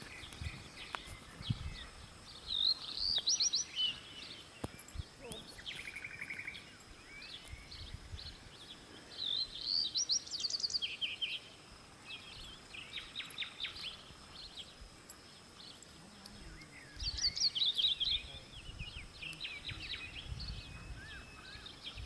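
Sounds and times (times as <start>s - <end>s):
outdoor background hiss: 0.0s - 22.0s
wild birds chirping: 0.0s - 22.0s.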